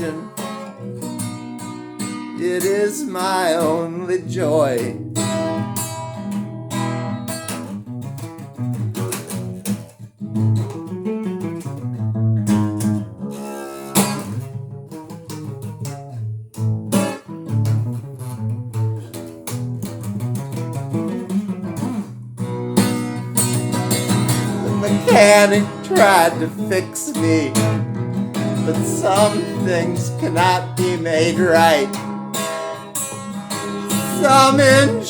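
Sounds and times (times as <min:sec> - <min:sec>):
guitar picked and strummed chords: 0:00.0 - 0:35.0.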